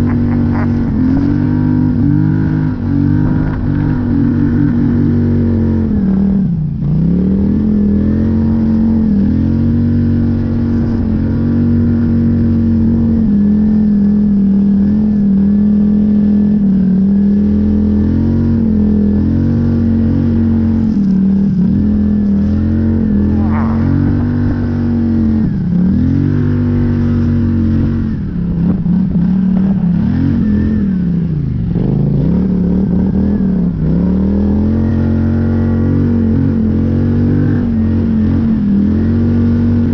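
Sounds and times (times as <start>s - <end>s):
atv engine running hard: 0.0s - 39.9s.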